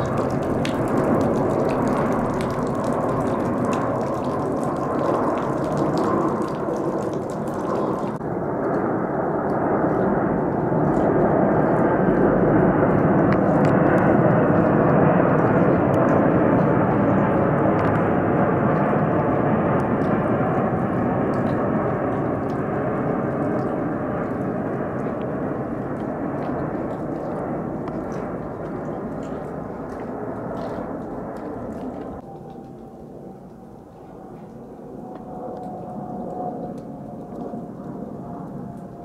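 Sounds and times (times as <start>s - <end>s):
jet airliner passing overhead: 0.0s - 39.0s.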